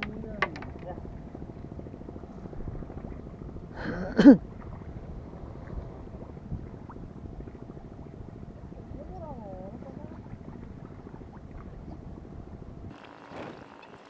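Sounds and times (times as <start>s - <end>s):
wind on microphone: 0.0s - 13.7s
faint steady hum: 0.0s - 14.0s
sea noise: 0.0s - 14.0s.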